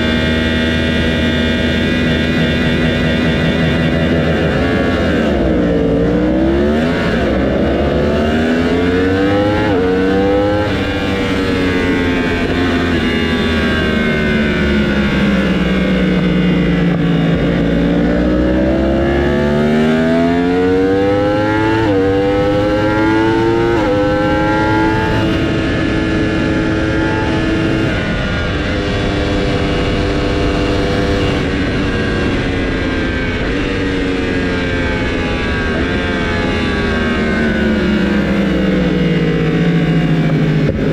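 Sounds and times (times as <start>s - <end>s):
race motorcycle engines revving: 0.0s - 40.9s.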